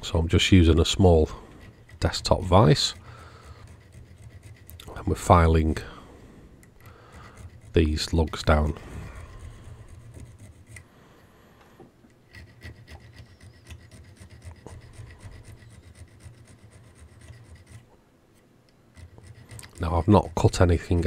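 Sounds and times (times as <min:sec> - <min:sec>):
hand file rasping on metal: 0:00.0 - 0:06.0, 0:06.7 - 0:10.9, 0:12.2 - 0:17.9, 0:18.9 - 0:21.0.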